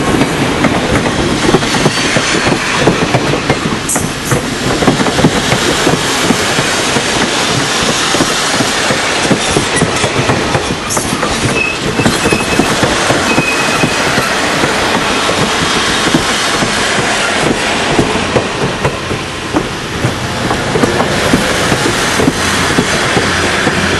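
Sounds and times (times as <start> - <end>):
clickety-clack over rail joints: 0.0 - 23.9
train wheels rumbling on rail: 0.0 - 23.9.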